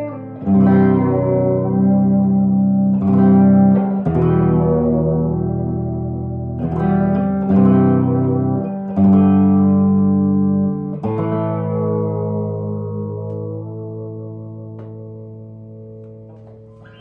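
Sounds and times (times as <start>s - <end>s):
electric guitar chords: 0.0s - 17.0s.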